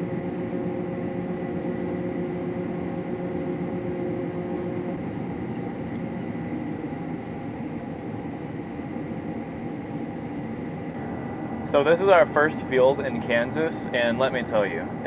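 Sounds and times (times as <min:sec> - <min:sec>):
combine harvester hum: 0:00.0 - 0:15.0
high machine whine: 0:00.0 - 0:15.0.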